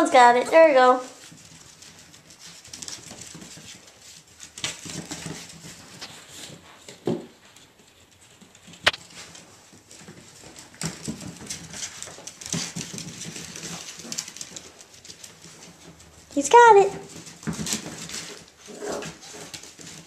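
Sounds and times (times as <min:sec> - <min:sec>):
puppies scuffling on carpet: 0:00.0 - 0:20.0
paw and ball clicks: 0:01.1 - 0:20.0.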